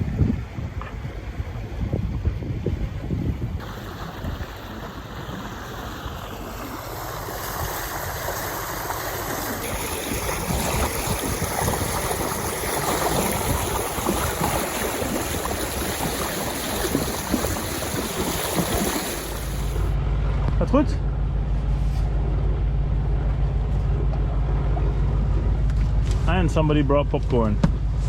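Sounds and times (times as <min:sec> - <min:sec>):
water rushing along a hull: 0:00.0 - 0:28.0.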